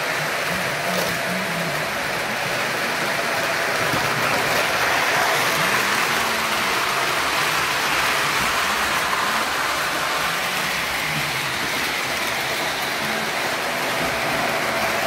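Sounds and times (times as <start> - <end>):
model train wheels rolling on rail: 0.0 - 15.0.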